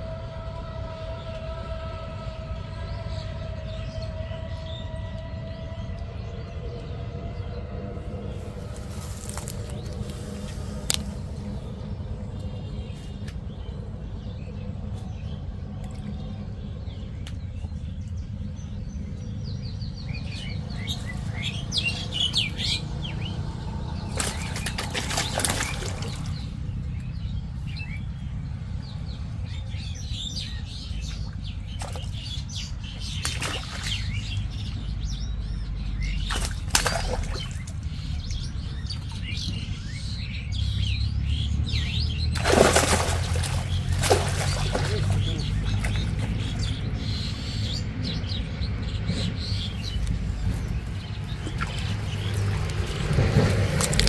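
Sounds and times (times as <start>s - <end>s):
steady low rumble: 0.0s - 54.0s
birds chirping: 3.0s - 54.0s.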